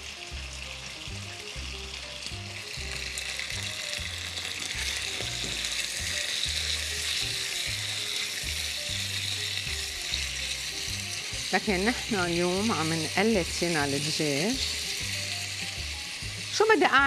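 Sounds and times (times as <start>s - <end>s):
background music: 0.0s - 17.0s
chicken sizzling in a pan: 0.0s - 17.0s.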